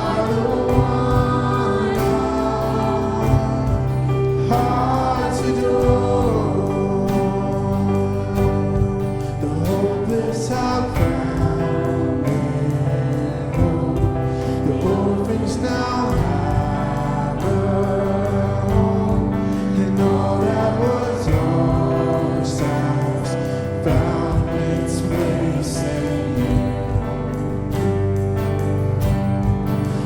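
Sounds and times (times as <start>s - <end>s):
band with guitar: 0.0s - 30.0s
voices singing together: 0.0s - 30.0s.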